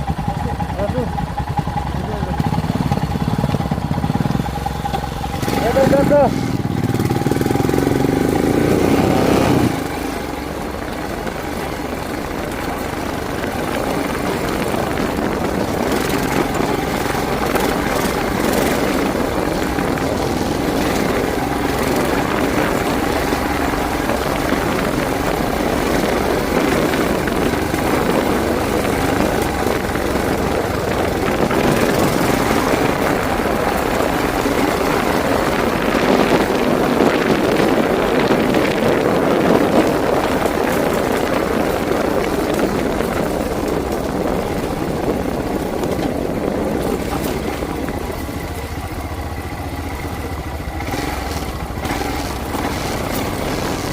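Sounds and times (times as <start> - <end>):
motorcycle engine running: 0.0 - 53.9
road and wind noise: 0.0 - 53.9.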